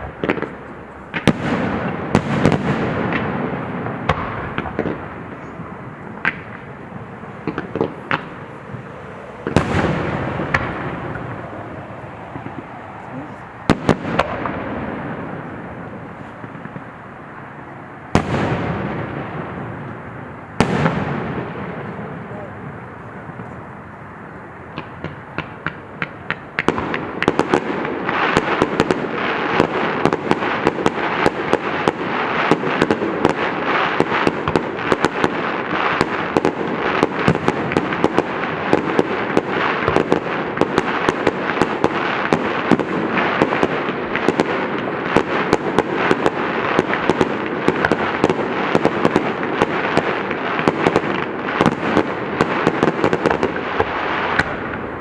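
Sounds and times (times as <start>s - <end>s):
fireworks cracking and popping: 0.0s - 55.0s.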